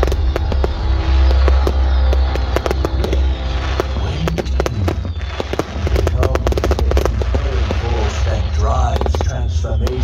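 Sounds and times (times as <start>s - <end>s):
firework bangs and crackling: 0.0s - 10.0s
heavy low rumble: 0.0s - 10.0s
music playing: 0.0s - 10.0s.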